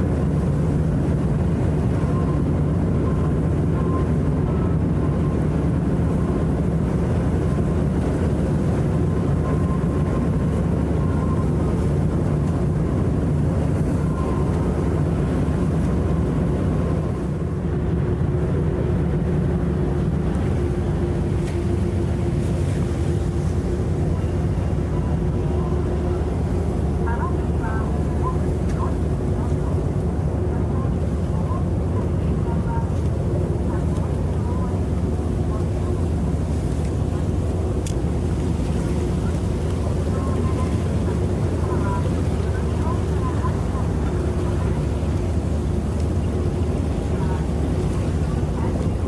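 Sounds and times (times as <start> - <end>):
ship engines droning: 0.0 - 49.0.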